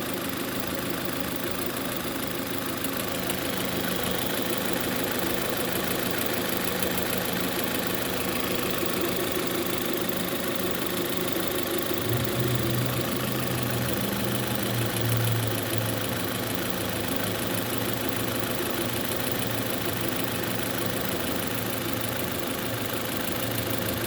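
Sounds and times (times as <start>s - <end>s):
car engine idling: 0.0s - 24.0s
rhythmic engine knock: 0.0s - 24.0s.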